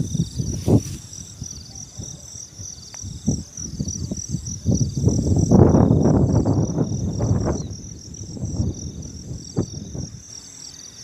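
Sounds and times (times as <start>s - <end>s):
wind buffeting microphone: 0.0s - 10.3s
insects trilling: 0.0s - 11.0s.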